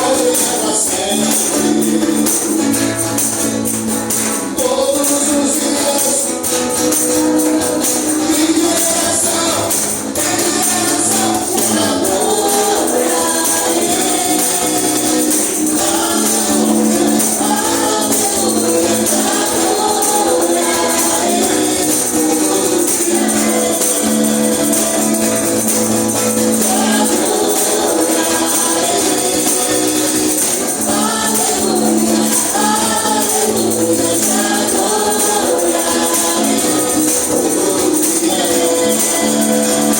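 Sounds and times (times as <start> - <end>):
gospel band playing: 0.0 - 39.9
group of voices singing: 0.0 - 39.9
tambourine jingling: 0.0 - 39.9.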